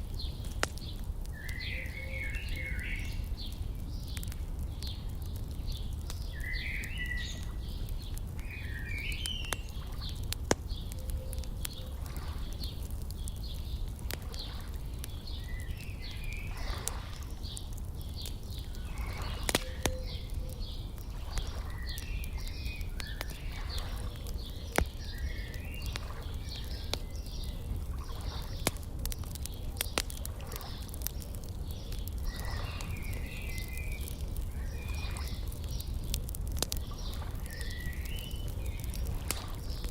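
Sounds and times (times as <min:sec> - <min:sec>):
wood fire crackling and popping: 0:00.0 - 0:39.9
birds singing: 0:00.1 - 0:39.9.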